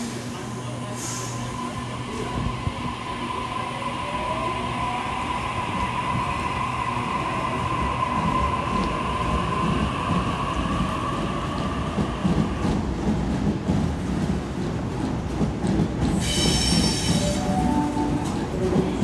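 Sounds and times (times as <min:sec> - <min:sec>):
electric train rumble: 0:00.0 - 0:19.0.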